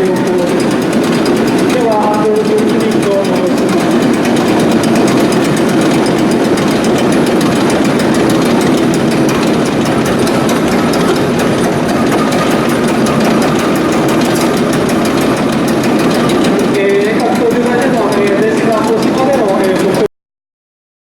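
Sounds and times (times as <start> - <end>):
diesel engine running loudly: 0.0 - 20.1.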